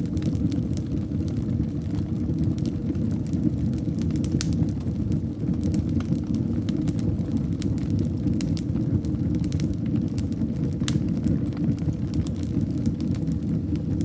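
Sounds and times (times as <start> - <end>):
fire flames rumbling: 0.0 - 14.0
logs crackling and popping: 0.0 - 14.0.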